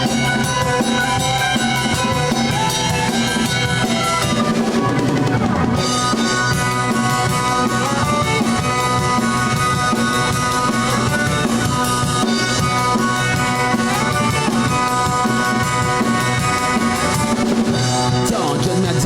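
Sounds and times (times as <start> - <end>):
bass guitar: 0.0 - 19.0
drum kit steady beat: 0.0 - 19.0
sustained guitar: 0.0 - 19.0.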